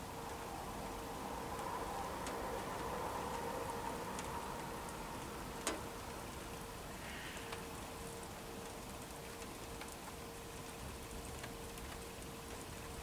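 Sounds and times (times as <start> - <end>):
faint rain falling: 0.0 - 13.0
faint steady hum: 0.0 - 13.0.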